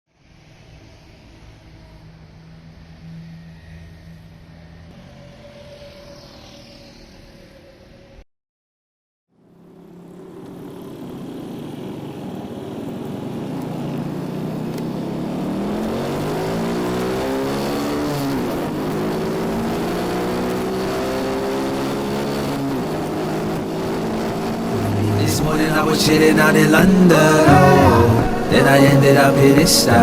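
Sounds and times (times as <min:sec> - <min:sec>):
motorcycle engine accelerating: 0:00.5 - 0:08.2, 0:09.4 - 0:30.0.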